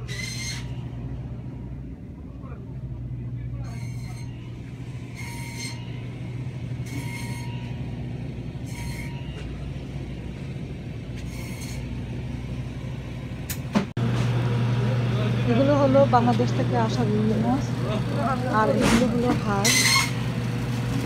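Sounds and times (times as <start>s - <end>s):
freezer cases humming: 0.0s - 21.0s.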